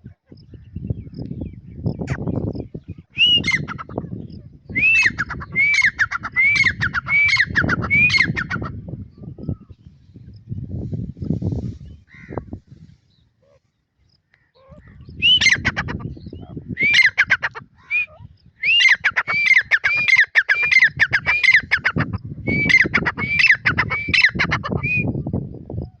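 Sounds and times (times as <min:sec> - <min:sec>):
partridge calling: 0:00.4 - 0:09.8, 0:10.4 - 0:25.4.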